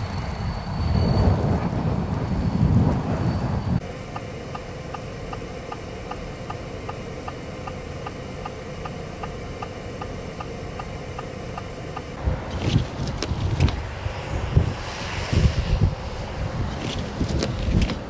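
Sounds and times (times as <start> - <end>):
cabin and road noise: 0.0 - 18.0.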